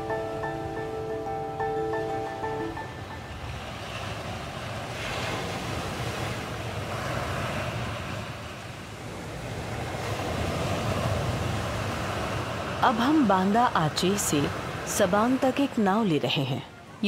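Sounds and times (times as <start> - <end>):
sea waves: 0.0 - 17.0.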